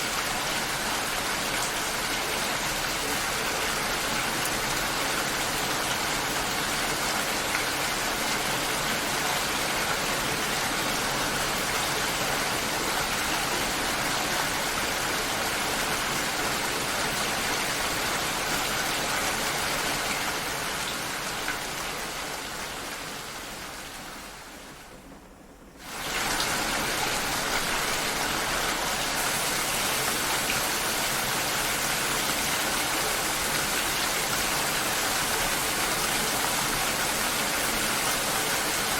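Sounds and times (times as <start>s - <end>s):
heavy rain hiss: 0.0s - 24.9s, 25.8s - 38.9s.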